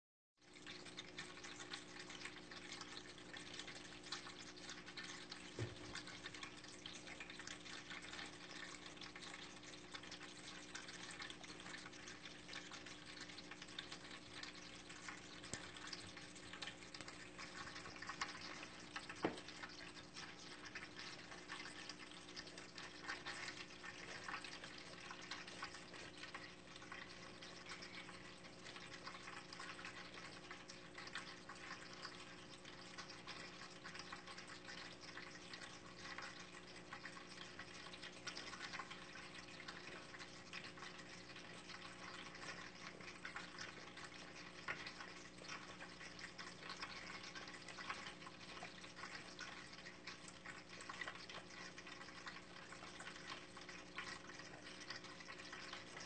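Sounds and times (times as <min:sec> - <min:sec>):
pump hum: 0:00.4 - 0:56.0
water trickling and dripping: 0:00.4 - 0:56.0.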